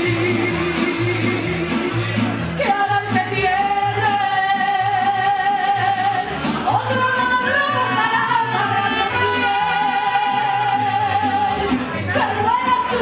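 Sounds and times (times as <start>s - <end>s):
woman singing: 0.0s - 1.9s, 2.6s - 13.0s
mariachi band playing: 0.0s - 13.0s.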